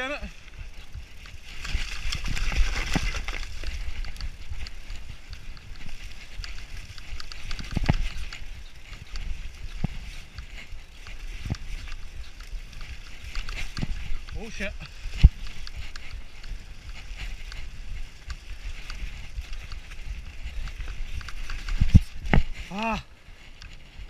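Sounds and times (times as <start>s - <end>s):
bike rattling and knocking: 0.0s - 24.0s
bike tyres rumbling over dirt: 0.0s - 24.0s.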